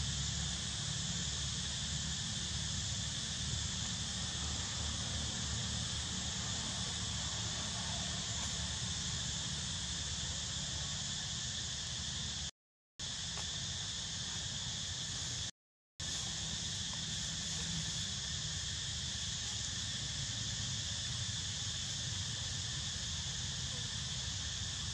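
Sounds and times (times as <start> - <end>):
insect chorus shrilling: 0.0 - 24.9.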